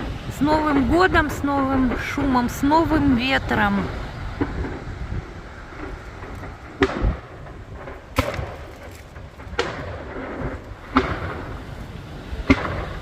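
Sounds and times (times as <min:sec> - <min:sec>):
fireworks bangs: 0:00.0 - 0:13.0
strong wind on microphone: 0:00.0 - 0:13.0.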